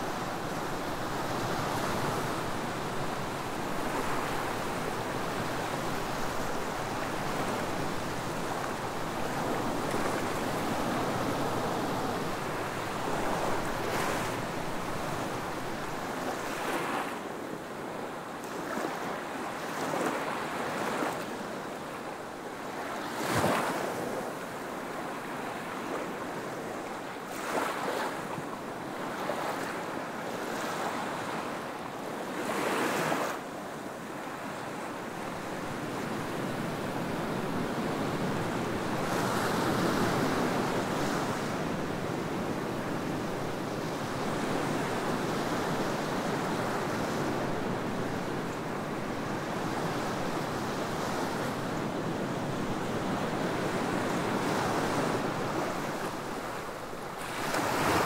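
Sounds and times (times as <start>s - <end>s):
waves washing on beach: 0.0s - 58.0s.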